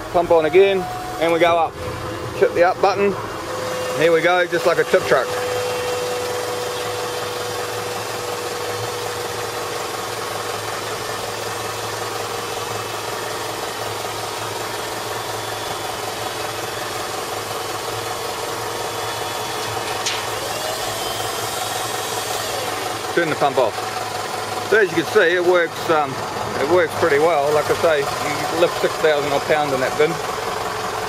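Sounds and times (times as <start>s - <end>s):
electric hydraulic pump humming: 0.0s - 31.0s.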